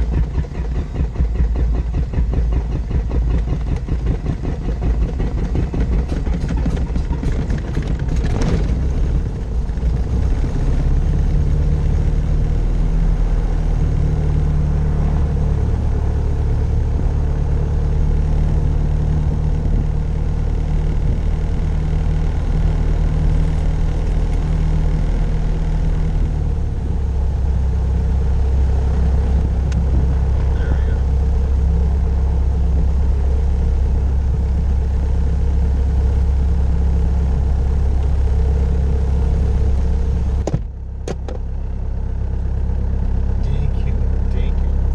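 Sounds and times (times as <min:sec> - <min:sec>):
propeller aircraft engine running: 0:00.0 - 0:44.9.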